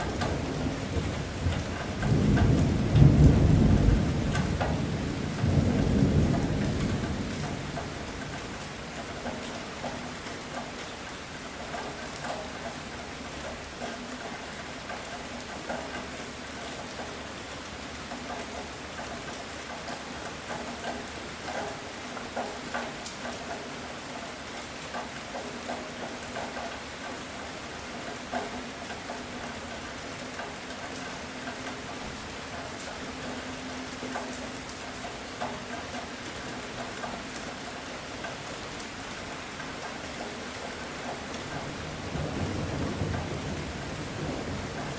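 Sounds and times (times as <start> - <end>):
heavy rain falling: 0.0 - 44.9
raindrops ticking close by: 0.0 - 44.9.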